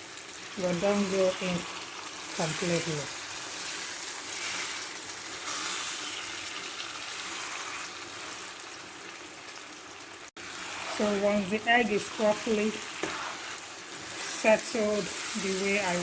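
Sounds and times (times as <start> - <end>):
sauce sizzling in oil: 0.0 - 16.0.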